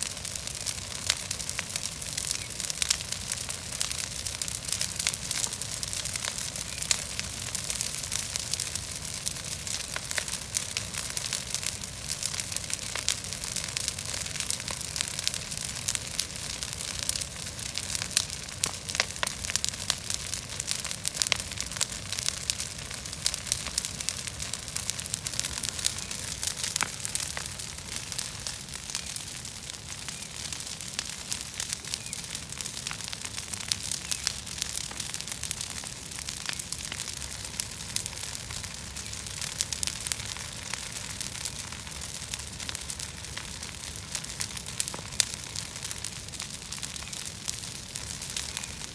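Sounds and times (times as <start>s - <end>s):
bonfire roaring and crackling: 0.0s - 48.9s.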